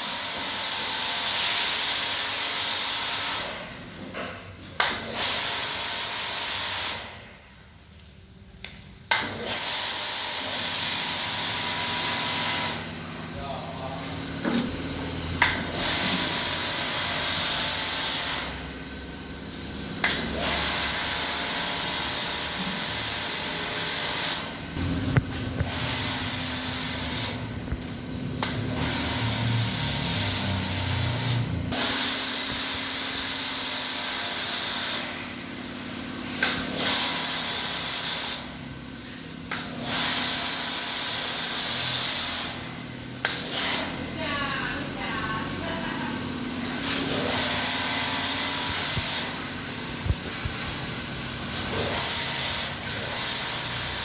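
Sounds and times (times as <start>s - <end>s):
pressure washer spraying: 0.0s - 3.6s, 4.8s - 7.2s, 9.1s - 13.2s, 15.4s - 18.9s, 20.0s - 44.2s, 45.7s - 54.0s.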